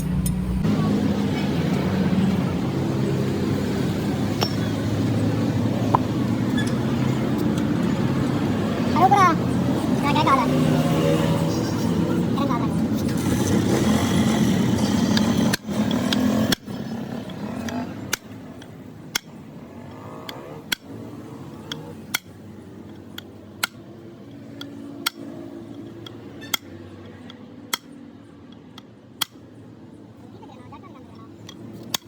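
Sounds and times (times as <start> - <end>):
loud dense mechanical noise: 0.0 - 32.0.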